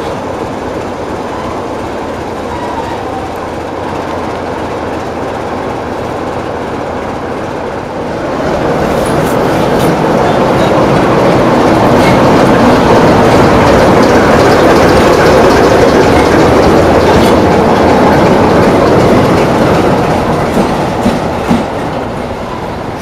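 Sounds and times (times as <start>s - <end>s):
diesel locomotive engine: 0.0s - 23.0s
train wheels rolling: 0.0s - 23.0s.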